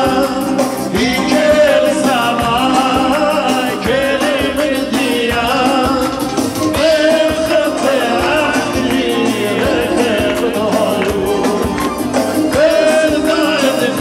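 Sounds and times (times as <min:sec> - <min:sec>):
live band playing: 0:00.0 - 0:14.0
man singing into microphone: 0:00.0 - 0:14.0.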